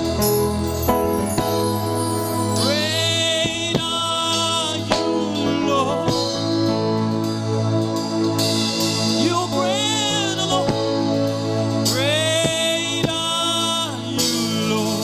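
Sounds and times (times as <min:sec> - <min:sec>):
gospel band with singing: 0:00.0 - 0:15.0.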